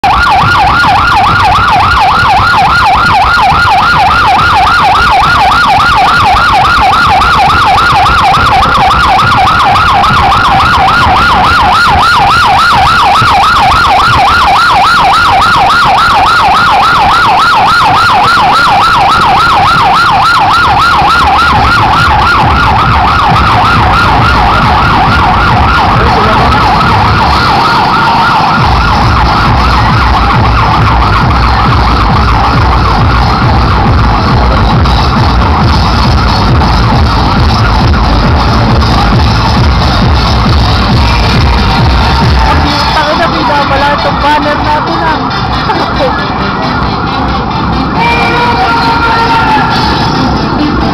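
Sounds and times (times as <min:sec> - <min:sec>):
police siren yelping: 0:00.0 - 0:50.9.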